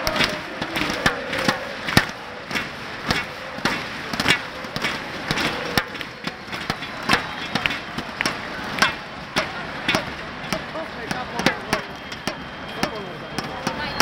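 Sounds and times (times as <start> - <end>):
stadium crowd din: 0.0 - 14.0.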